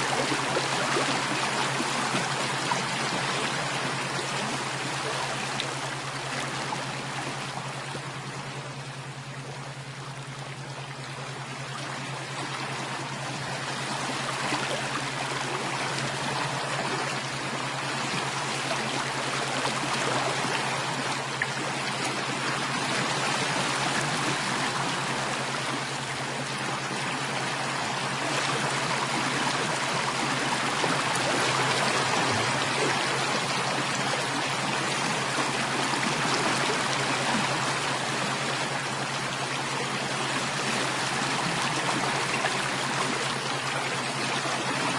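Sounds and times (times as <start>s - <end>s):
low hum: 0.0s - 44.9s
running water flowing: 0.0s - 44.9s.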